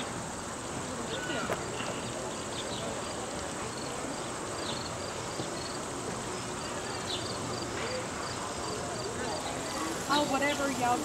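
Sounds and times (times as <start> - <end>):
insects chirping: 0.0 - 11.0
outdoor background hiss: 0.0 - 11.0.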